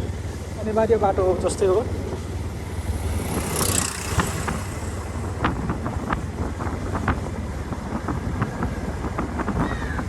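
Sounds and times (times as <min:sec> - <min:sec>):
motorcycle engine rumble: 0:00.0 - 0:10.0
wind buffeting microphone: 0:00.0 - 0:10.0.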